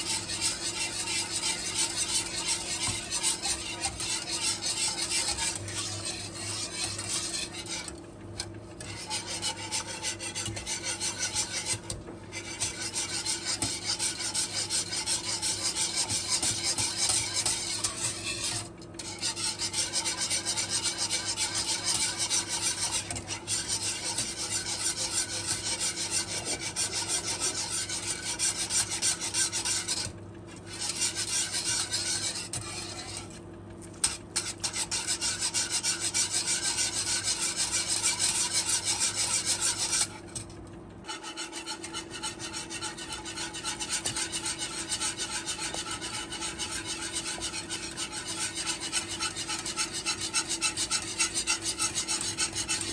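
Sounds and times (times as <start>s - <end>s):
whisk scraping inside a bowl: 0.0s - 52.9s.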